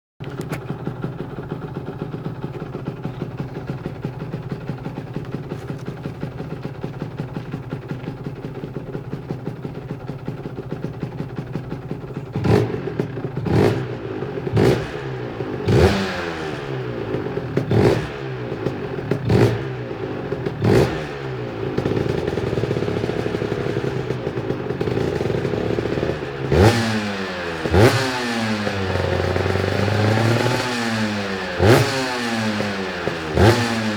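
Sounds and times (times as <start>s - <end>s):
motorcycle engine idling and revving: 0.2s - 33.9s.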